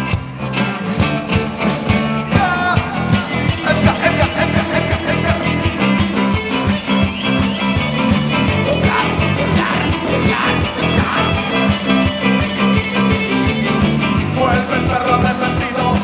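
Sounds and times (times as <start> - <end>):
rock band playing live: 0.0 - 16.0
steady drum beat: 0.0 - 16.0.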